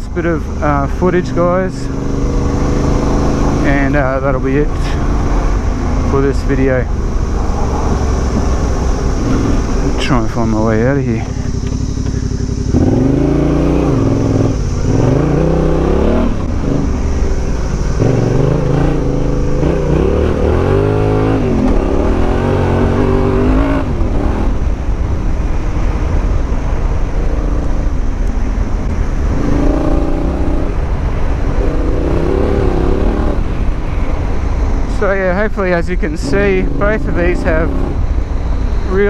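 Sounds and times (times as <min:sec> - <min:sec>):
motorcycle engine revving: 0:00.0 - 0:35.1.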